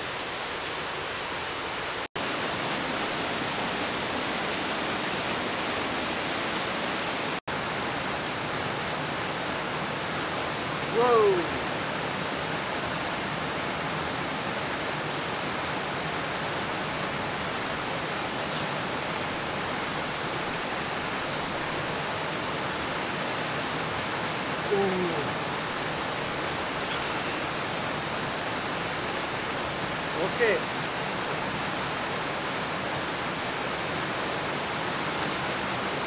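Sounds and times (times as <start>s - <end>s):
stream rushing over stones: 0.0s - 36.0s.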